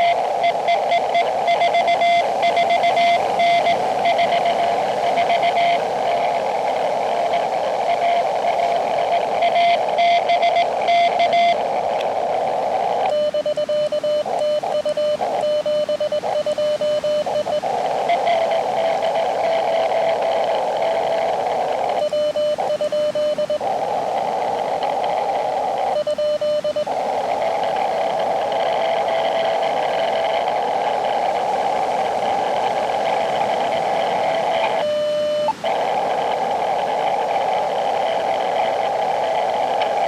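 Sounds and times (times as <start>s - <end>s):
morse sidetone beeps: 0.0s - 12.0s, 12.6s - 40.0s
faint incoming morse signal: 0.0s - 40.0s
radio band hiss: 0.0s - 40.0s.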